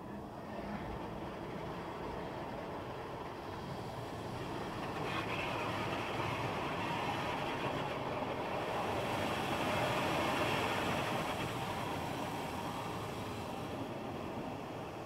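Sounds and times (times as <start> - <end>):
car wash machinery rumble and hiss: 0.0 - 15.0.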